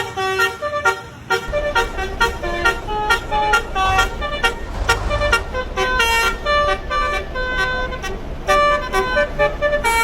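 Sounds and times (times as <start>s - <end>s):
bus engine rumbling: 0.0s - 10.0s
multi-tone bus horn jingle: 0.0s - 10.0s.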